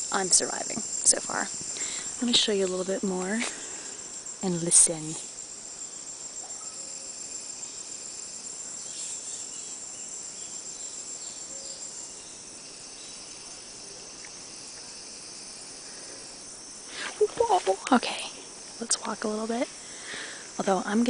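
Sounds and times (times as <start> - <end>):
short insect chirps: 0.0 - 20.9
insect chorus drone: 0.0 - 21.0.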